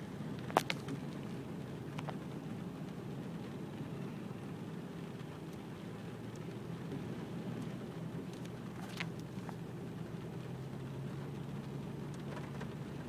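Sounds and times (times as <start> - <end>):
car engine hum: 0.0 - 13.0
road noise inside car: 0.0 - 13.0.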